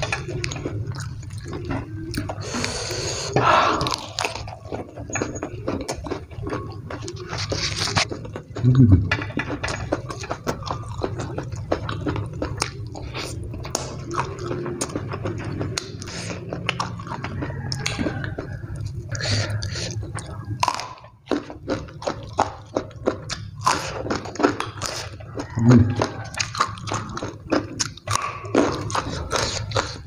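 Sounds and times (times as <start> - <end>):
chewing with wet mouth smacks: 0.0 - 30.0.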